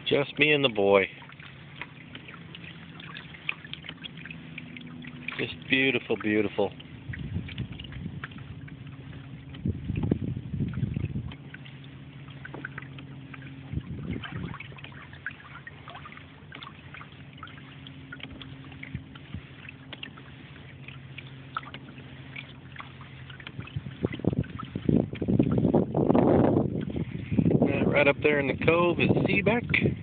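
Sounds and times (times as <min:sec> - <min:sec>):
low hum: 0:00.0 - 0:30.0
water lapping along hull: 0:00.0 - 0:30.0
water rushes: 0:00.0 - 0:30.0.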